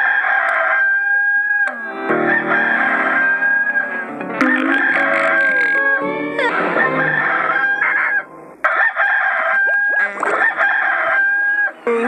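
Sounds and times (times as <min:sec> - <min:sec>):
rooster crowing: 0:00.0 - 0:05.6, 0:06.4 - 0:11.8.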